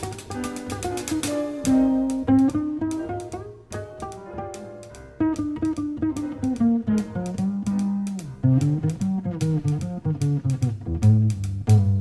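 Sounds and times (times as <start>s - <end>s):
plucked double bass: 0.0s - 12.0s.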